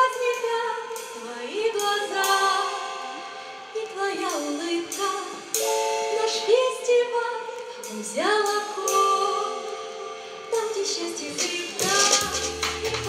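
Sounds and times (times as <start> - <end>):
women singing: 0.0 - 9.8, 10.5 - 13.0
musical accompaniment: 0.0 - 13.0.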